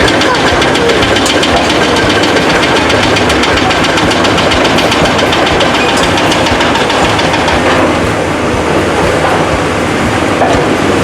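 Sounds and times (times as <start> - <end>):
heavy diesel engine knocking: 0.0 - 11.0.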